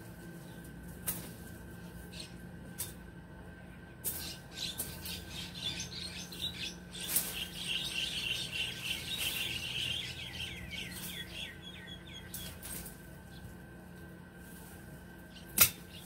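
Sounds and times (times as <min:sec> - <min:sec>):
dry leaves crackling underfoot: 0:00.0 - 0:02.4, 0:04.0 - 0:16.0
songbirds chirping: 0:00.0 - 0:16.0.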